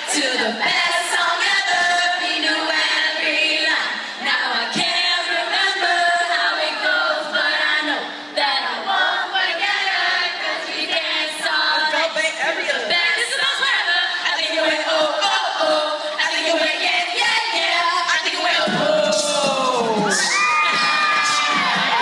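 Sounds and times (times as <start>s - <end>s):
female group singing a cappella: 0.0s - 20.4s.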